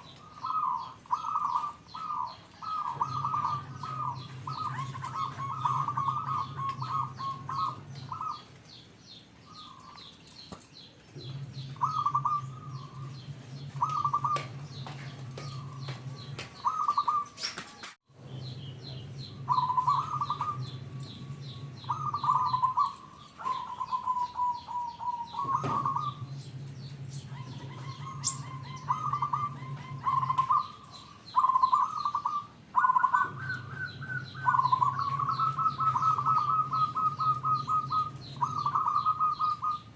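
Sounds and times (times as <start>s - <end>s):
dove cooing song: 0.0s - 39.9s
small birds chirping faintly: 0.0s - 39.9s.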